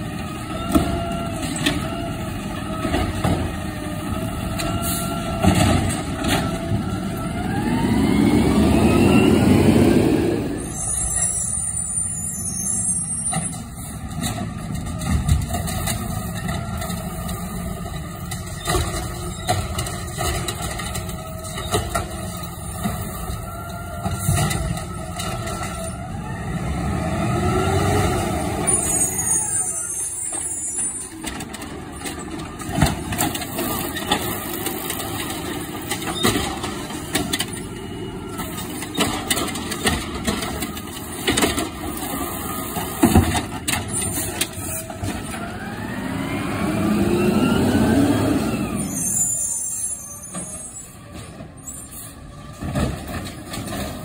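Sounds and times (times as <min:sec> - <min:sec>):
garbage truck engine revving: 0:00.0 - 0:11.4, 0:13.8 - 0:54.0.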